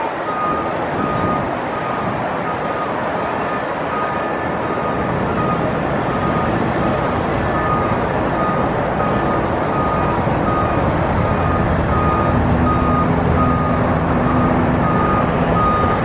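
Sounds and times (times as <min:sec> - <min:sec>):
diesel engine rumble: 0:00.0 - 0:16.0
low steady engine tone: 0:00.0 - 0:16.0
backup alarm beeping: 0:00.3 - 0:16.0.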